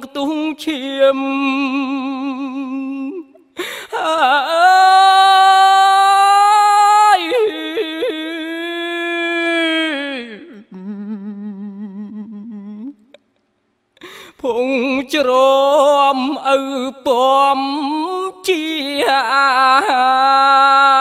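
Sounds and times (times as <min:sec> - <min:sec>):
man chanting: 0:00.0 - 0:10.6, 0:14.4 - 0:21.0.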